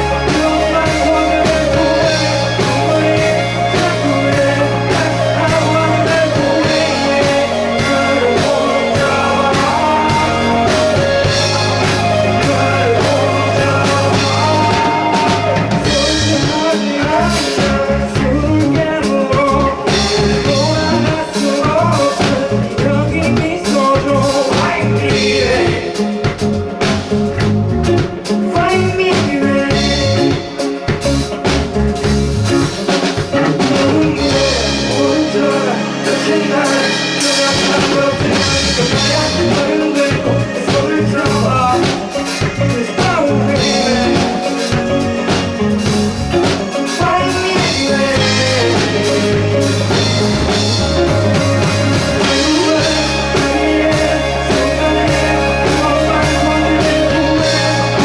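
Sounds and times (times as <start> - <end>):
person singing: 0.0 - 27.1, 27.8 - 58.0
bass: 0.0 - 58.0
drum kit: 0.0 - 58.0
electric guitar: 0.0 - 58.0.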